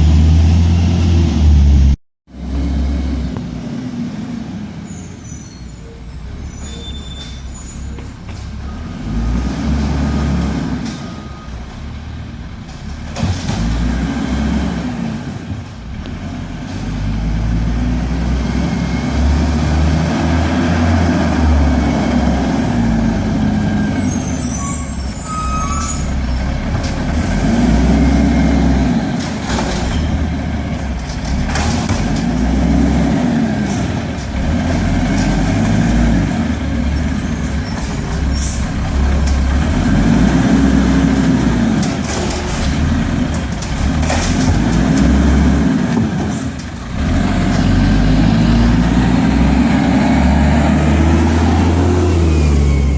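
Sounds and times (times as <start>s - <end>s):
garbage truck engine: 0.0s - 52.9s.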